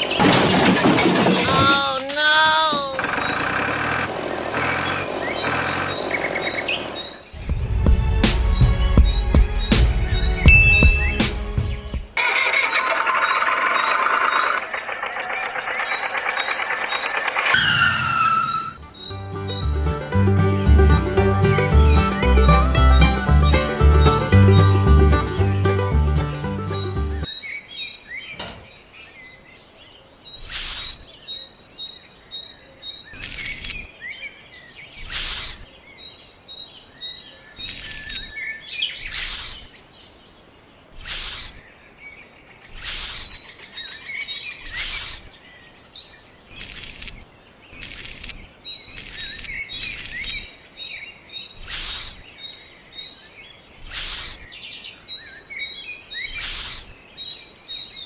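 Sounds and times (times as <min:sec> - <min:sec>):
small birds chirping: 0:00.9 - 0:07.6, 0:08.4 - 0:20.2, 0:21.6 - 0:25.5, 0:26.6 - 0:58.0.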